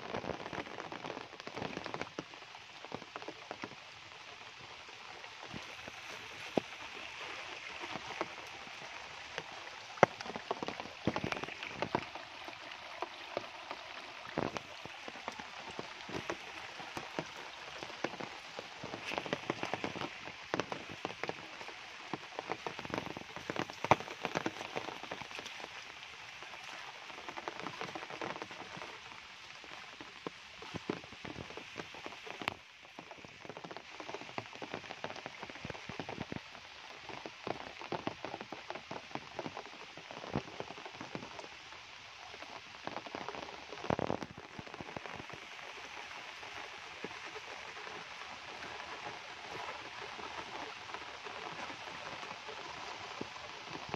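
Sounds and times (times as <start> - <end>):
rain on leaves: 0.0 - 53.9.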